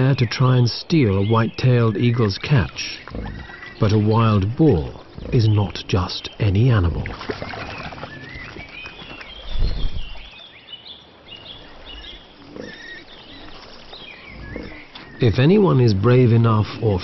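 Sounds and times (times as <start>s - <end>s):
small birds chirping: 0.0s - 17.0s
wild boars foraging in water: 0.0s - 17.0s.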